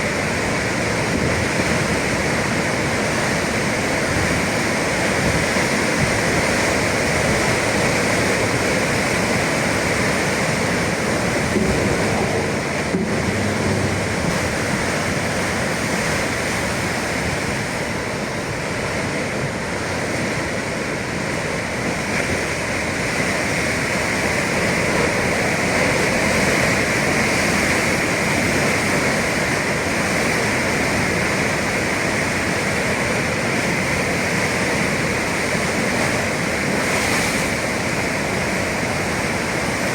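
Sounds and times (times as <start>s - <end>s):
ocean surf breaking on shore: 0.0s - 39.9s.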